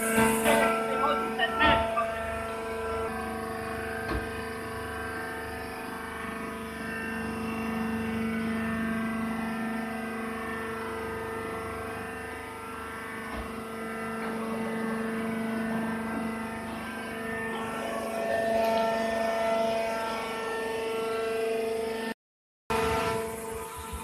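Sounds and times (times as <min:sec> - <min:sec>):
hydraulic motor and pump humming: 0:00.0 - 0:22.1, 0:22.7 - 0:24.0.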